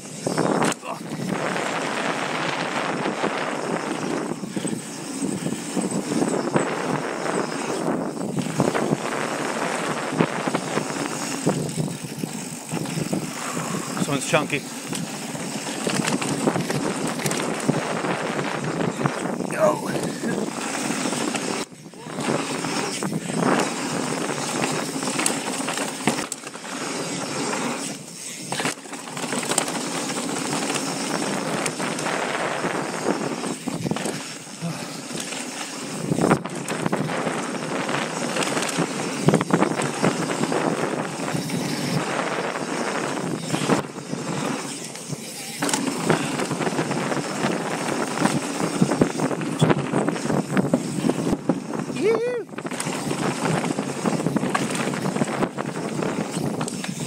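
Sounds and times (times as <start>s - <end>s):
tyres on dirt: 0.0s - 57.0s
wind rush on microphone: 0.0s - 57.0s
bike rattling and knocking: 0.1s - 57.0s.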